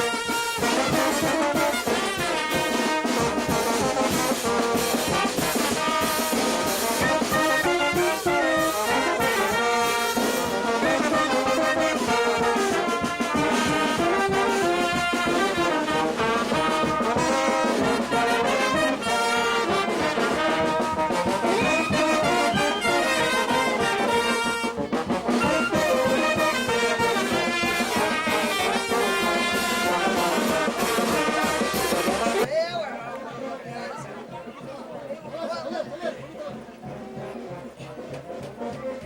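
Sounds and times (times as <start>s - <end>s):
brass band playing: 0.0s - 39.0s.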